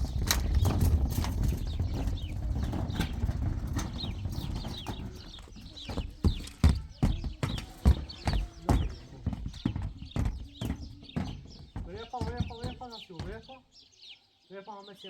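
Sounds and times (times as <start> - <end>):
hooves clopping on hard ground: 0.0 - 13.8.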